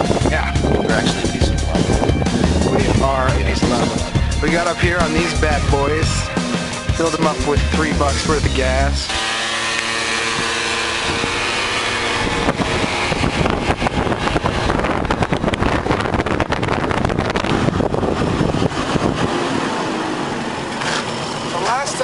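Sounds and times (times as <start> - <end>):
wind buffeting microphone: 0.0 - 20.8
motor scooter engines: 0.0 - 22.0.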